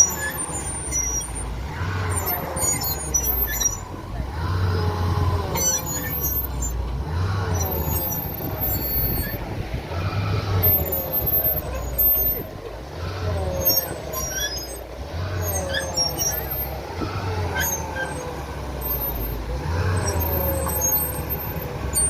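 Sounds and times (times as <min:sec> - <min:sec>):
diesel excavator engines surging: 0:00.0 - 0:22.0.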